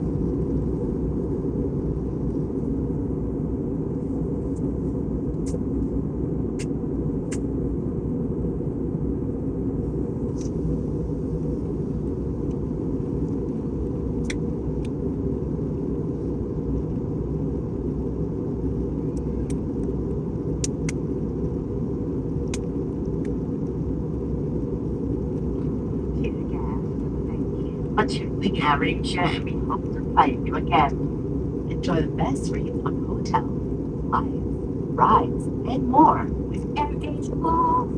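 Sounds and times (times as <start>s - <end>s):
airplane cabin engine rumble: 0.0s - 37.9s.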